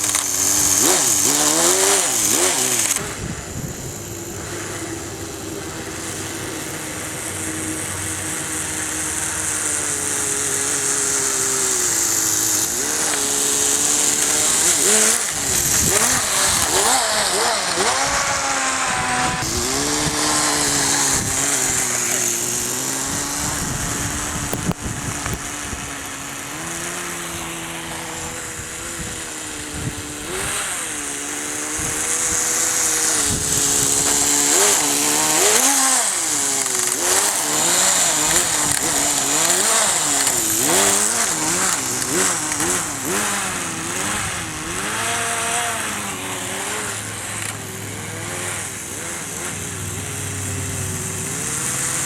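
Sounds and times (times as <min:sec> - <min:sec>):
small nitro engine hissing: 0:00.0 - 0:52.0.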